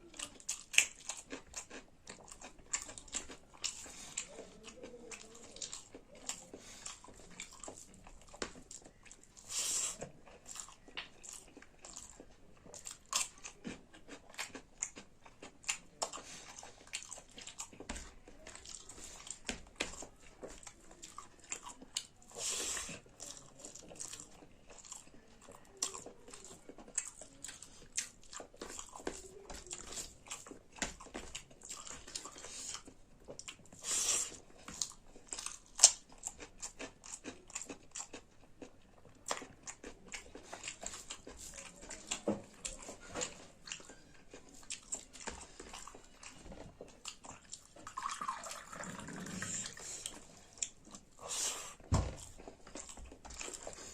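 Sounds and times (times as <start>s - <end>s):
wet chewing and mouth smacks: 0.0s - 48.6s, 49.2s - 53.9s.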